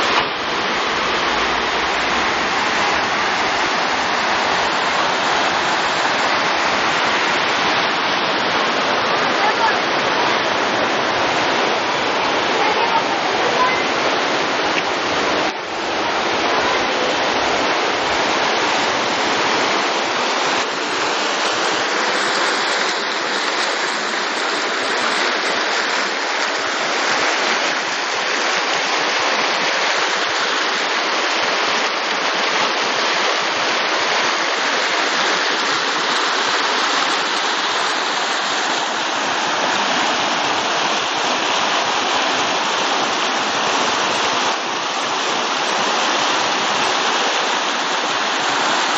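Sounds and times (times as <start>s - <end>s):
rushing fast-flowing water: 0.0s - 48.9s.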